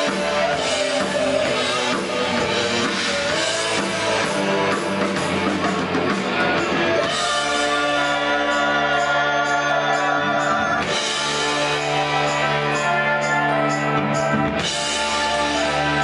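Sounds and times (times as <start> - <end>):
drums: 0.0 - 16.0
electric guitars: 0.0 - 16.0
person singing: 0.0 - 16.0.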